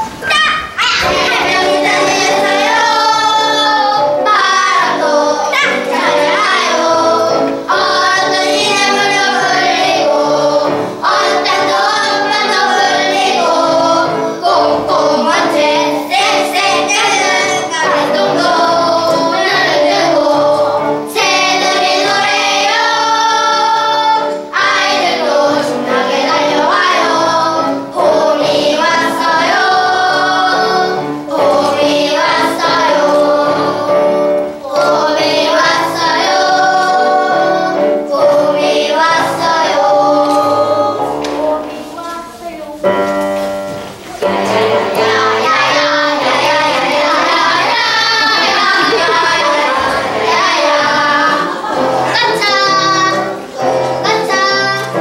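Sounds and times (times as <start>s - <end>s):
young children singing: 0.0s - 55.0s.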